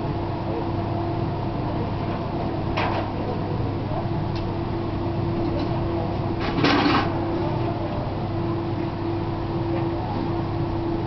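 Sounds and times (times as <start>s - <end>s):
forge air blower humming: 0.0s - 11.0s.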